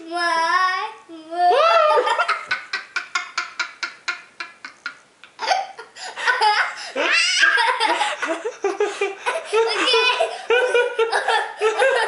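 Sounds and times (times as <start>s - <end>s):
young girl laughing: 1.5s - 12.0s
man laughing: 1.7s - 12.0s.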